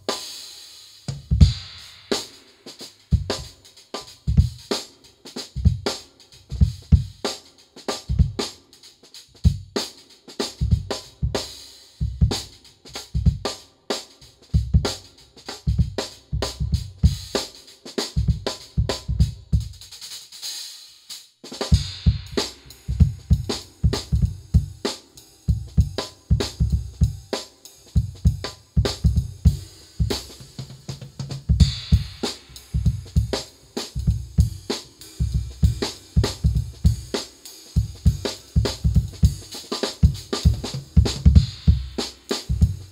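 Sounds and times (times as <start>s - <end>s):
drum kit groove: 0.0s - 42.9s.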